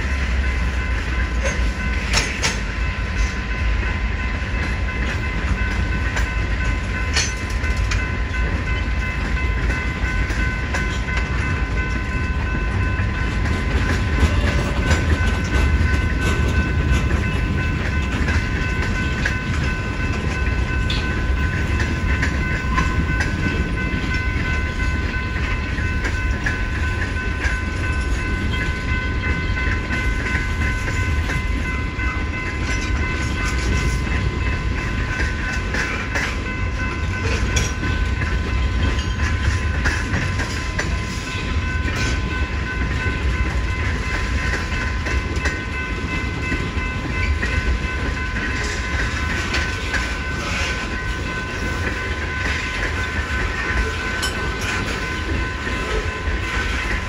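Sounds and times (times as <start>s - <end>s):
wheels clicking over rail joints: 0.0s - 3.4s, 4.5s - 57.0s
freight train rumbling past: 0.0s - 57.0s.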